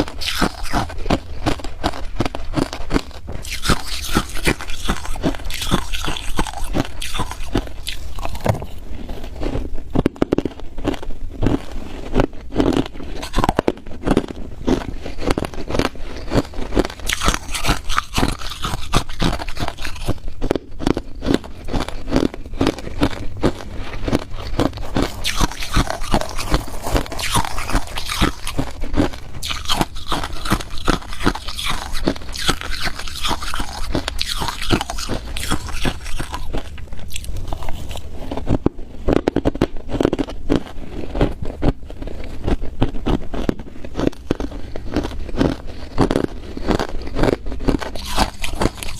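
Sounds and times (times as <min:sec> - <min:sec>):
person chewing ice: 0:00.0 - 0:48.9.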